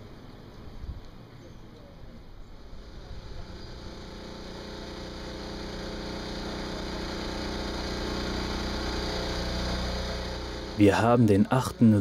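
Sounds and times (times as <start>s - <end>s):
street noise: 0.0s - 12.0s
bus engine idling: 2.2s - 12.0s.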